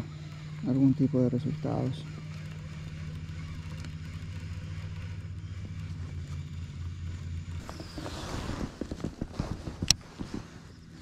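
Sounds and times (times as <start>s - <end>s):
electric motor humming: 0.0s - 11.0s.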